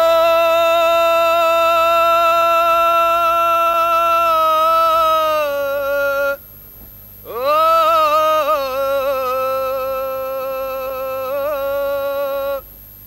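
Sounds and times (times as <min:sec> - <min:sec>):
person singing a long held note: 0:00.0 - 0:06.4, 0:07.2 - 0:12.7.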